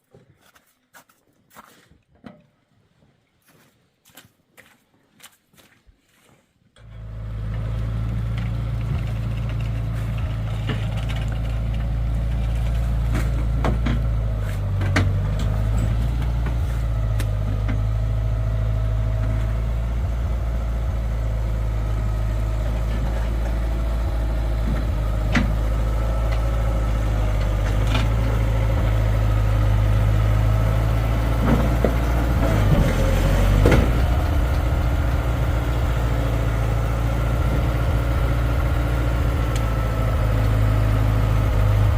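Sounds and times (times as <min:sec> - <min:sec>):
engine idling: 0:06.8 - 0:41.9.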